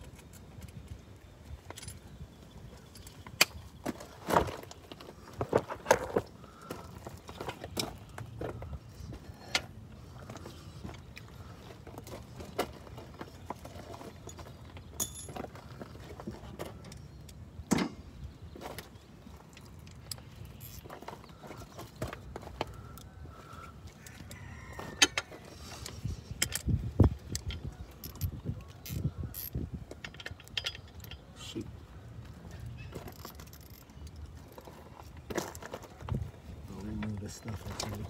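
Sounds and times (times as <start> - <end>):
hand tools clicking and clanking: 2.7 - 23.1, 24.9 - 38.0.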